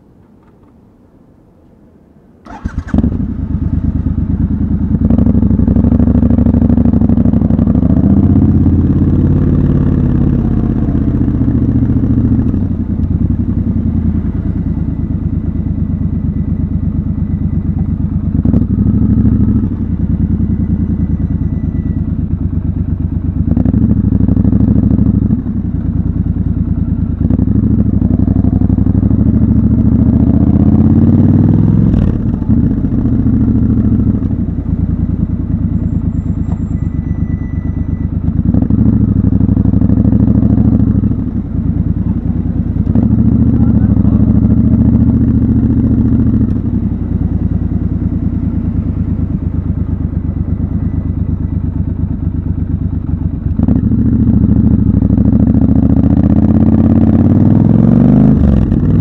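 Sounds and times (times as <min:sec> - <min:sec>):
motorcycle engine revving: 0:02.4 - 0:59.0.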